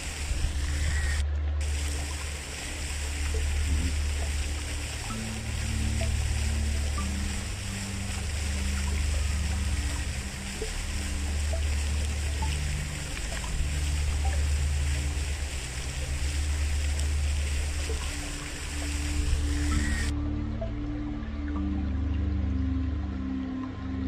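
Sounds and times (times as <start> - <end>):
soft ambient music: 0.0 - 24.0
stream water flowing: 0.0 - 24.0.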